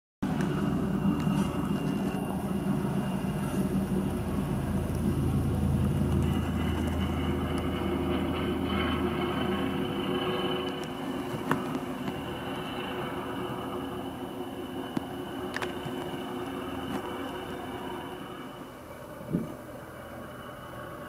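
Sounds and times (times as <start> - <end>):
helicopter rotor beating: 0.2 - 21.0
thin high whine: 0.2 - 21.0.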